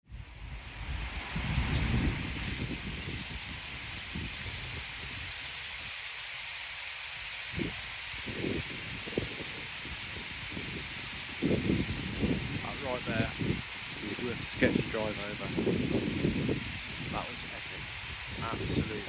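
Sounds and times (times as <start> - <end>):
wind buffeting microphone: 0.1 - 6.0, 7.5 - 19.0
starlings chattering: 1.2 - 6.1, 7.2 - 19.0.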